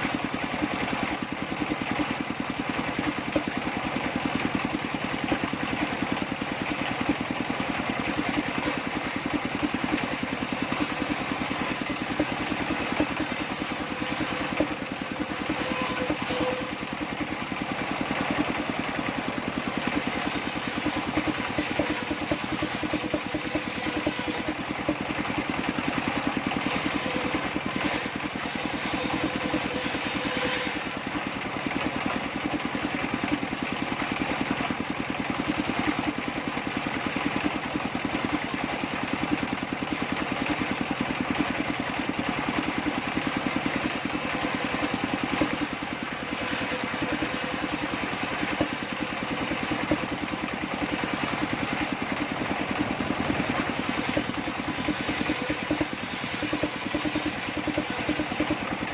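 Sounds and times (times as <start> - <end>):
table saw running: 0.0 - 58.9.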